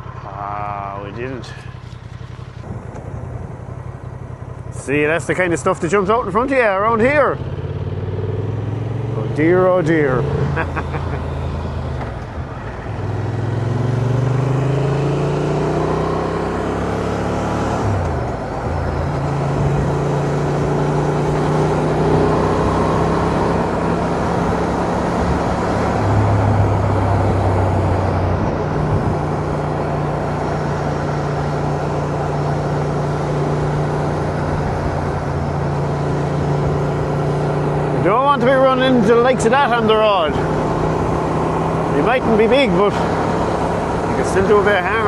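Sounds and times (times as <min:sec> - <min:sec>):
motorcycle engine revving: 0:00.0 - 0:45.0
wind and road noise: 0:00.0 - 0:45.0.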